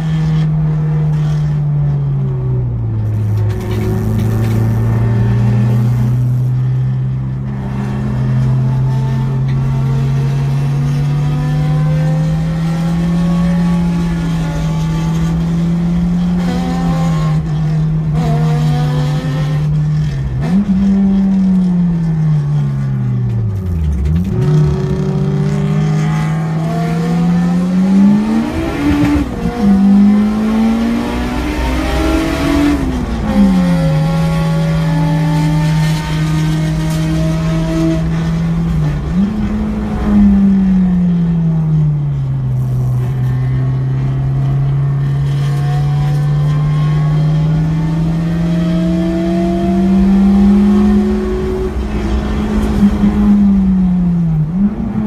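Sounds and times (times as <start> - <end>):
car engine under hard driving: 0.0 - 55.0.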